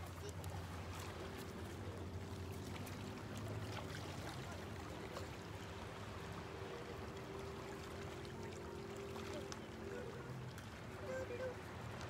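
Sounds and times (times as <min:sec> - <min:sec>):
faint little splashes: 0:00.0 - 0:12.0
water lapping against rocks: 0:00.0 - 0:12.0.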